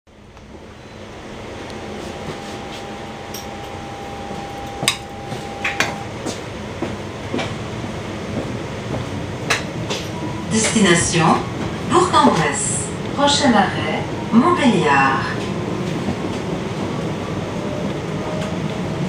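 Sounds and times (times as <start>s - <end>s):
train wheels rumbling on rails: 0.1s - 19.0s.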